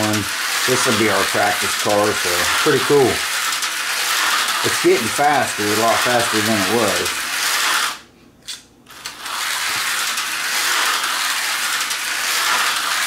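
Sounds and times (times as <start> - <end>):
slot car motor whirring: 0.0 - 8.1, 8.9 - 13.0.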